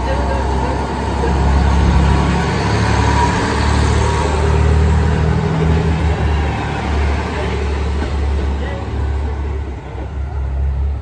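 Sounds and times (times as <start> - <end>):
diesel railcar engine droning: 0.0 - 11.0.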